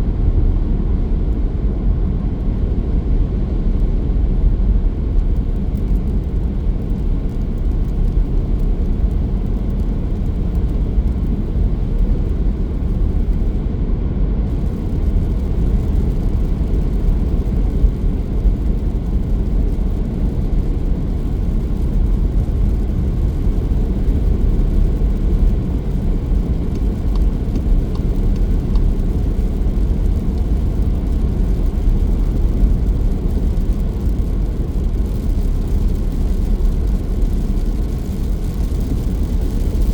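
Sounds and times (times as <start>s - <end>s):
car tyres and engine rumbling: 0.0s - 39.9s.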